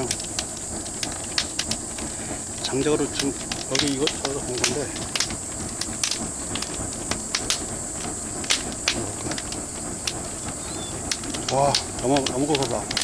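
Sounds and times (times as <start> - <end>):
firewood fire crackling: 0.0 - 13.0.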